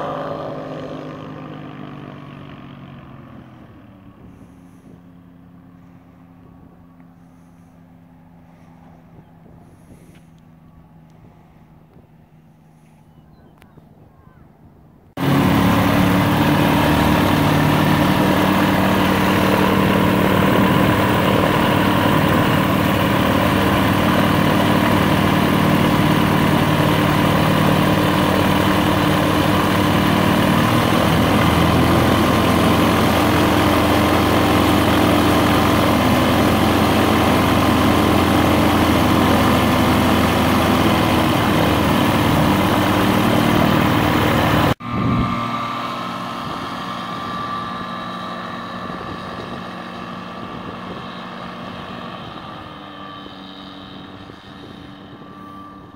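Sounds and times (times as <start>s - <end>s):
aircraft engine idling: 0.0s - 55.9s.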